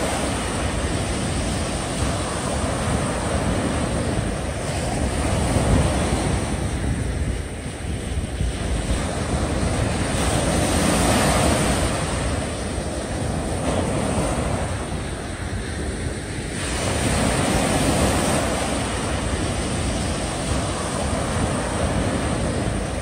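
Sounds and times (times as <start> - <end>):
small waves breaking on beach: 0.0 - 23.0
wind buffeting microphone: 0.0 - 23.0.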